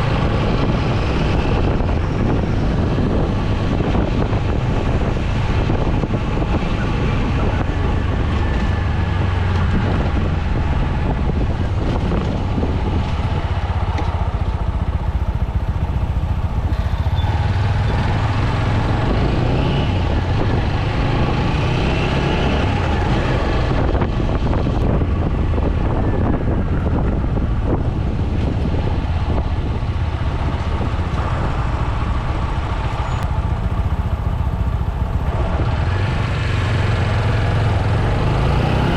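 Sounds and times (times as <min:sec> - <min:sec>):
motorcycle engine running: 0:00.0 - 0:38.2.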